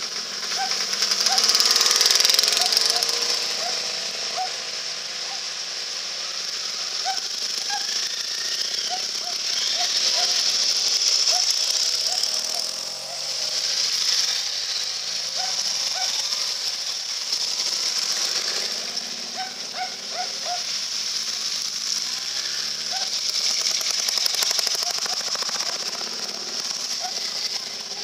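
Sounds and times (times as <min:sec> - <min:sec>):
motorcycle engines passing: 0:00.0 - 0:28.0.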